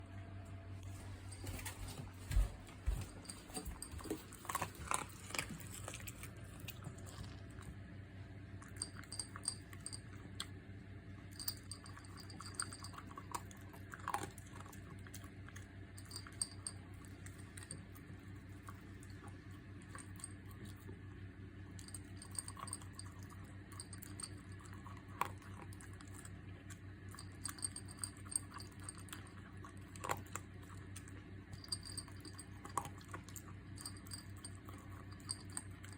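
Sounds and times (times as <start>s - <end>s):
steady low hum: 0.0s - 35.9s
dog chewing food: 0.8s - 7.9s, 8.5s - 10.6s, 11.2s - 21.0s, 21.7s - 35.9s.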